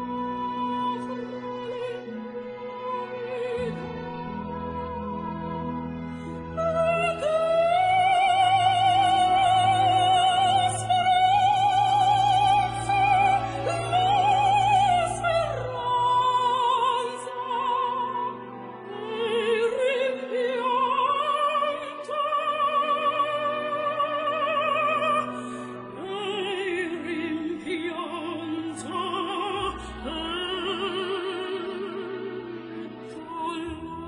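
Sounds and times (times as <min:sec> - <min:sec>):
classical music: 0:00.0 - 0:34.0
operatic singing with vibrato: 0:00.0 - 0:34.0.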